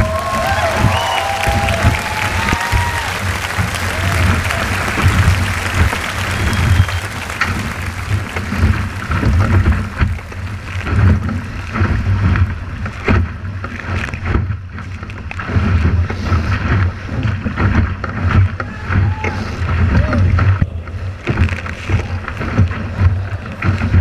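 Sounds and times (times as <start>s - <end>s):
water rushing along hull: 0.0s - 24.0s
water splashes and spray: 0.0s - 24.0s
wind buffeting microphone: 0.0s - 24.0s.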